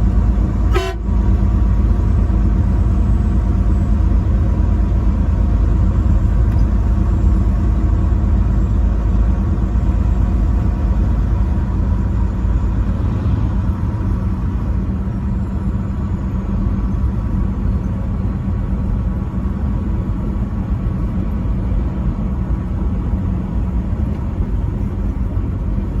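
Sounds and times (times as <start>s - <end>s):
road rumble: 0.0s - 26.0s
truck engine drone: 0.0s - 26.0s.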